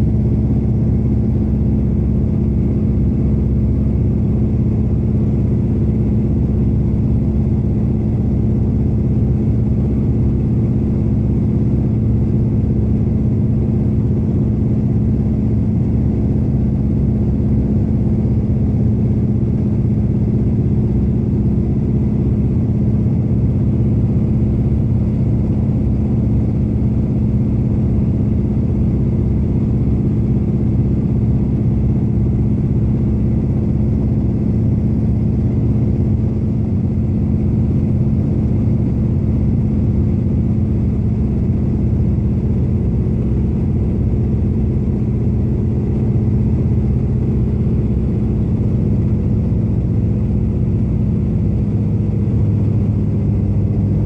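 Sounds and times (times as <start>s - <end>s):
radial aircraft engine from cabin: 0.0s - 54.0s.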